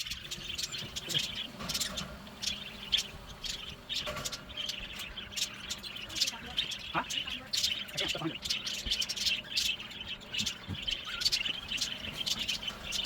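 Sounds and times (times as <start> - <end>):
cockatiels chirping: 0.0 - 13.0.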